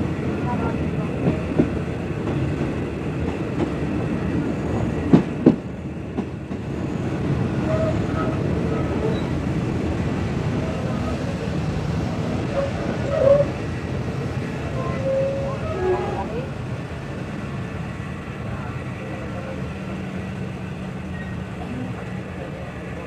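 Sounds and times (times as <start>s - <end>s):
train carriage rumbling on track: 0.0s - 23.0s.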